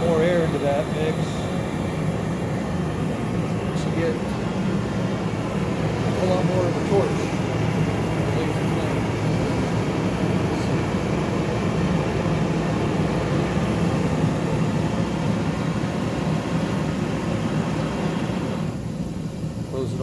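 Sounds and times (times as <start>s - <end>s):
gas forge burner roaring: 0.0s - 20.0s.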